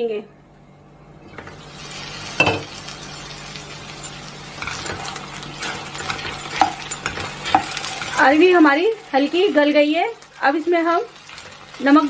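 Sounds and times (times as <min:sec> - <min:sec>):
food sizzling in oil: 0:01.4 - 0:12.0.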